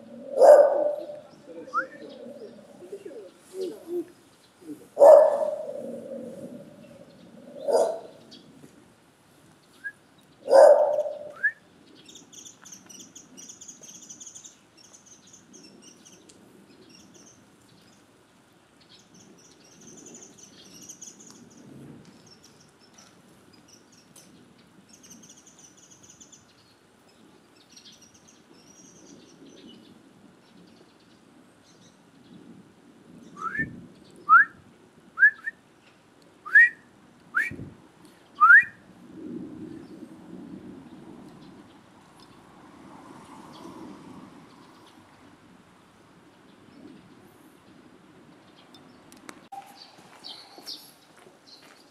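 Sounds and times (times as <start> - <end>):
small birds chirping: 0.0 - 34.3, 43.3 - 51.9.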